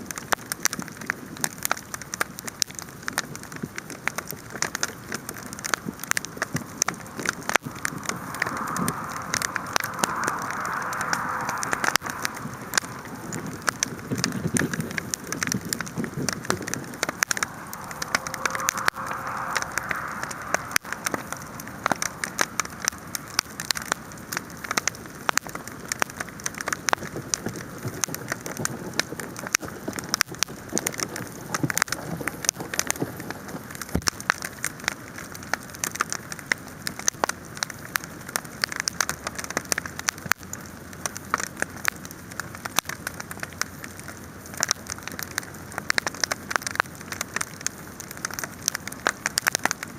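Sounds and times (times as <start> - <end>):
bonfire crackling and popping: 0.0 - 49.9.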